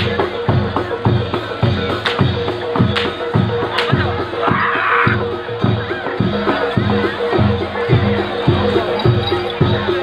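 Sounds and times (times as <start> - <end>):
drums beating: 0.0 - 10.0.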